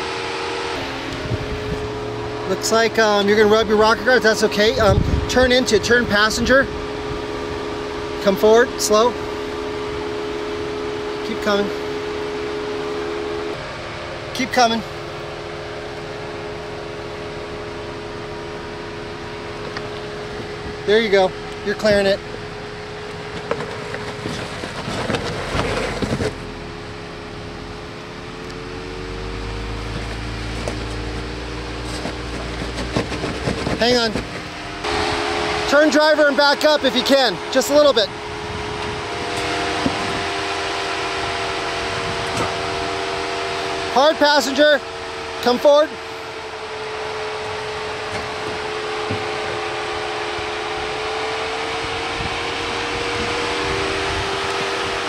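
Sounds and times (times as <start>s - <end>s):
engine crawling under load: 0.0s - 55.0s
faint rising whine: 0.0s - 55.0s.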